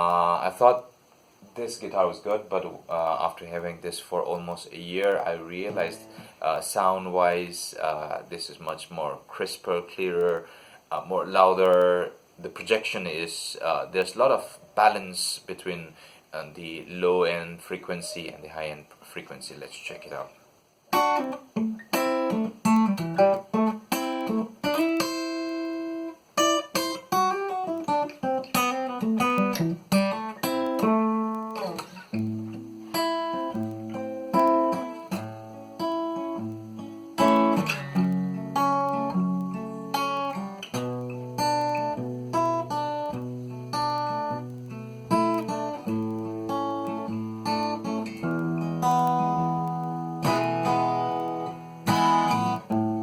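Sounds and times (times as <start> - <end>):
fingerstyle acoustic guitar: 1.6 - 13.1, 20.9 - 53.0.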